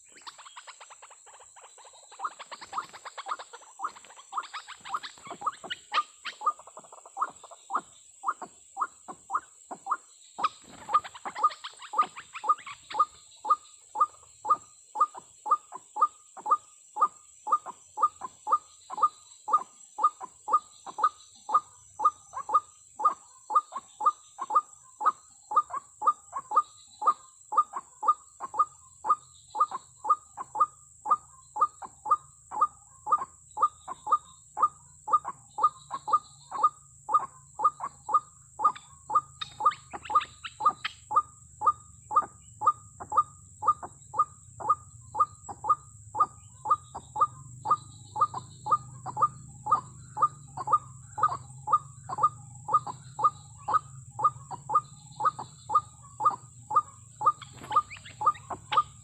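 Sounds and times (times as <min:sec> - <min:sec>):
bird call repeating: 0:09.9 - 0:59.0.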